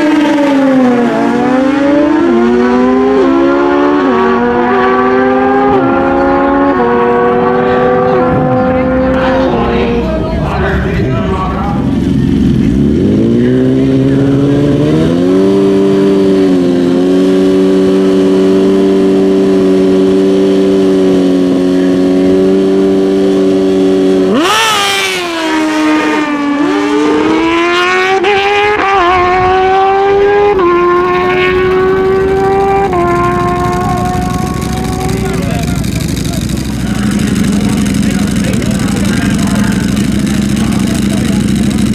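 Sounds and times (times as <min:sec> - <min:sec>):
drag motorcycle engines revving: 0:00.0 - 0:41.9.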